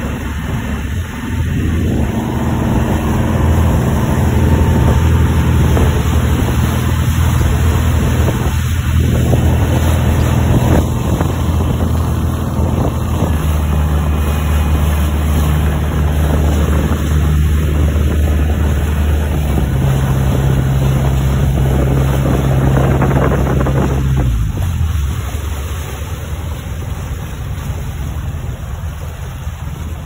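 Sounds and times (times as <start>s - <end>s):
boat engine running: 0.0s - 30.0s
propeller wash churning: 0.0s - 30.0s
wind on microphone: 0.0s - 30.0s.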